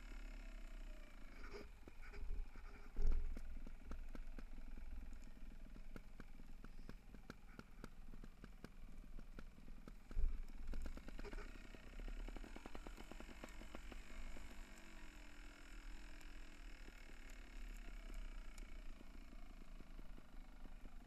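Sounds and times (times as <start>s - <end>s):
bike rattling over dirt trail: 1.4s - 20.6s.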